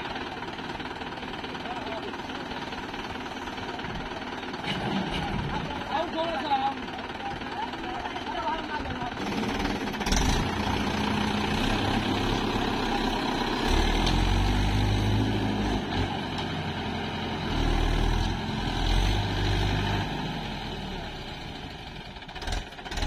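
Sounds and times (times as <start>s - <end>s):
tractor diesel engine labouring: 0.0s - 23.0s.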